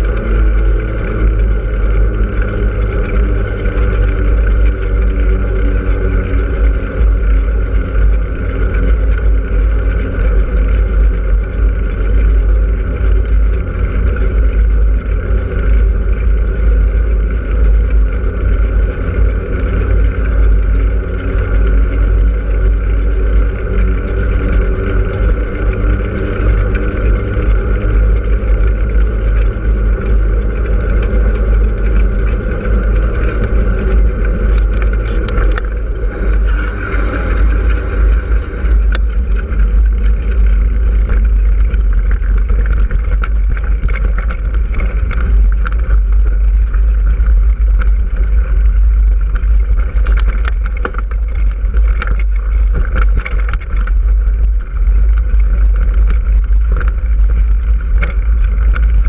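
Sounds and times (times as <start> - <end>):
tyres crackling over loose stones: 0.0 - 59.0
wind buffeting microphone: 0.0 - 59.0.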